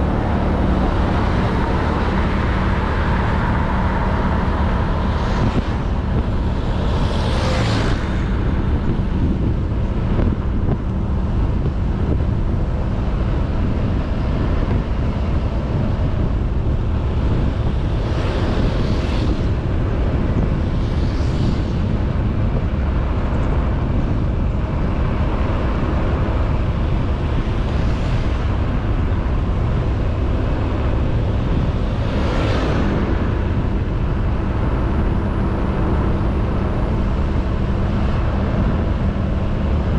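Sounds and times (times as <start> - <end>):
passing whooshes: 0.0 - 12.3, 16.0 - 39.9
wind on microphone: 0.0 - 39.9.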